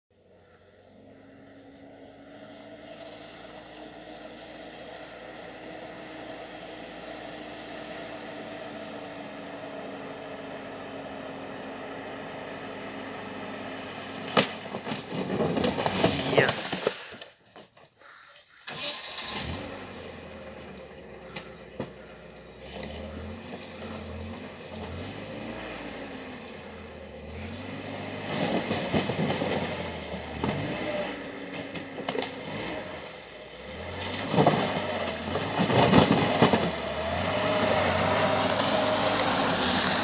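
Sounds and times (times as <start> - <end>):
van engine running: 0.1 - 17.2, 18.6 - 40.0.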